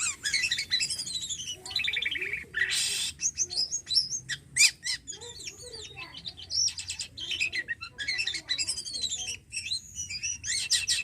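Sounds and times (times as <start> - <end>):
harsh rasping bird call: 0.0 - 11.0
starling singing: 0.0 - 11.0.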